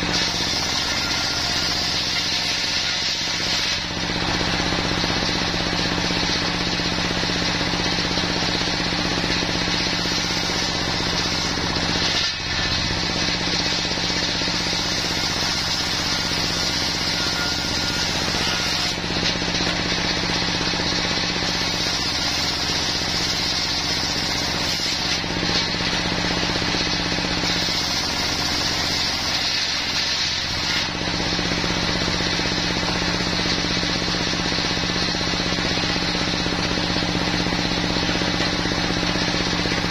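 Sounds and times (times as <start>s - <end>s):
circular saw ripping timber: 0.0s - 39.9s
diesel engine running: 3.2s - 24.6s, 25.2s - 28.7s, 30.4s - 39.9s.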